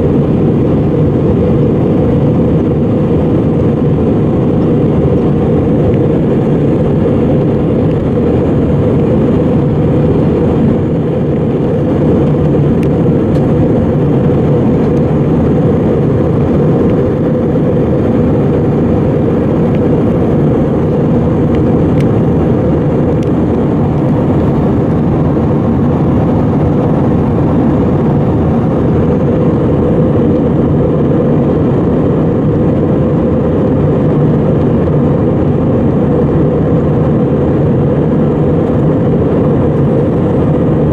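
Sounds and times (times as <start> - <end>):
jet engine cabin rumble: 0.0 - 40.9.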